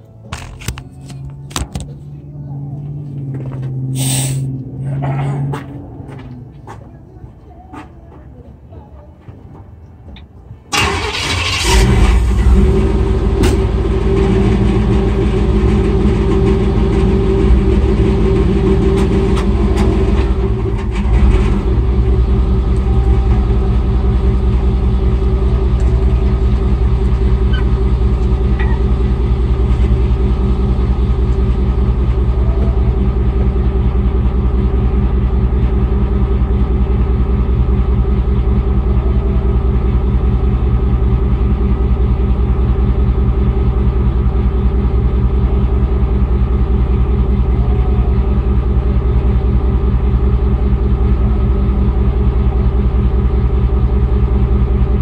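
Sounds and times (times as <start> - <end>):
engine cranking and running: 10.7 - 55.0.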